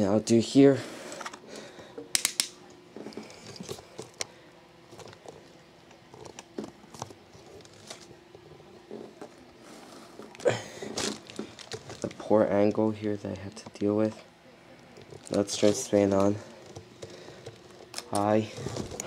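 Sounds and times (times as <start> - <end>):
handling clicks and rustles: 2.1 - 9.6, 10.2 - 19.0.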